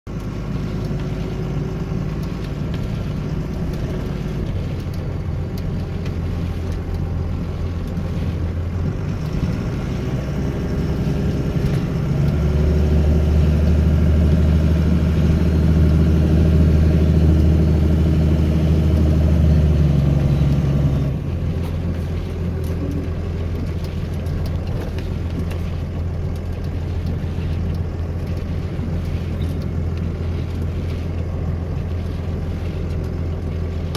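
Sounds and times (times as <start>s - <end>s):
engine drone: 0.1s - 33.9s.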